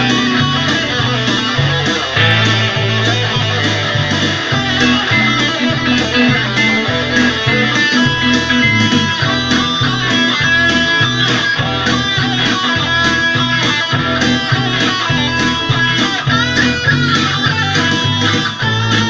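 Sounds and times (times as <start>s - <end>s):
electric guitar melody: 0.0s - 19.0s
low bass pattern: 0.0s - 19.0s.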